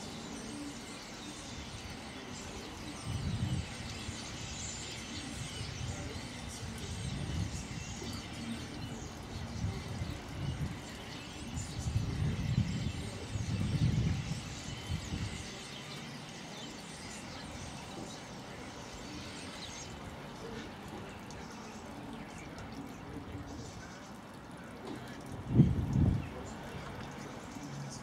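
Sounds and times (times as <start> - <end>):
starlings chirping and whistling: 0.0 - 22.8.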